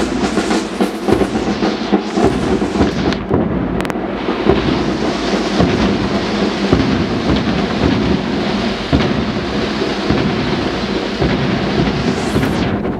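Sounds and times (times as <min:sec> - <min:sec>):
boots marching on asphalt: 0:00.0 - 0:12.9.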